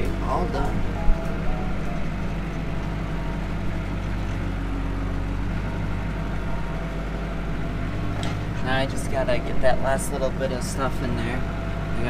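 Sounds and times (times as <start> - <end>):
tractor engine hum: 0.0 - 12.0.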